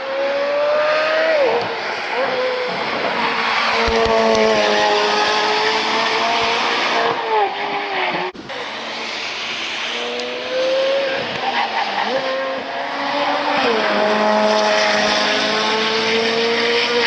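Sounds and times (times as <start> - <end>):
sports car engine at high revs: 0.0 - 17.0.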